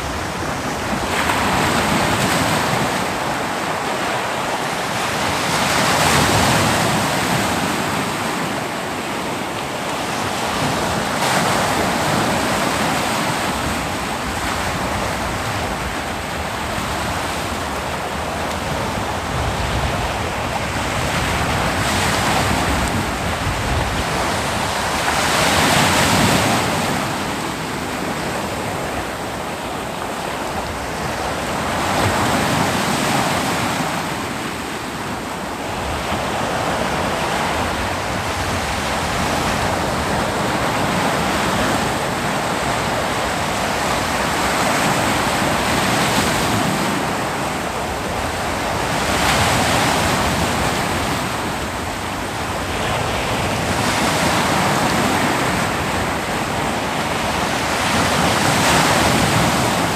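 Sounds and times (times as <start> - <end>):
ocean waves breaking on beach: 0.0 - 59.9
wind on microphone: 0.0 - 59.9.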